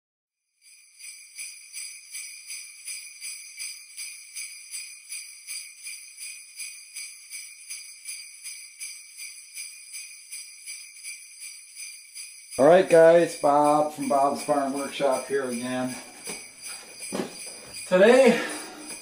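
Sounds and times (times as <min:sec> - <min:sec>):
jingle bells shaken: 0:00.6 - 0:19.0.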